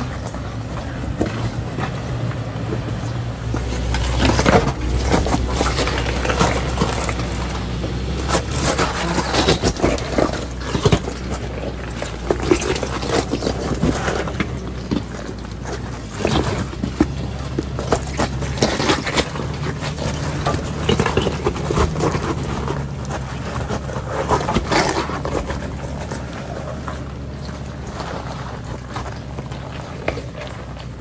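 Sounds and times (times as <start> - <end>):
engine running at low revs: 0.0 - 31.0
knocks and clatter: 0.0 - 31.0.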